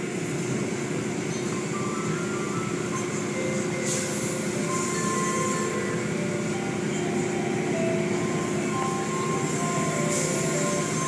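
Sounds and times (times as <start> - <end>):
car wash machinery hum: 0.0 - 11.0.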